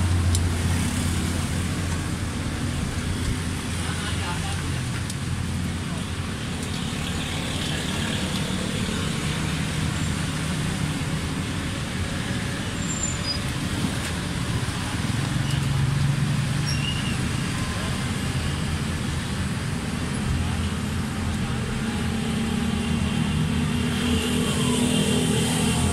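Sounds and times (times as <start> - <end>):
motor vehicles rumbling: 0.0 - 25.9.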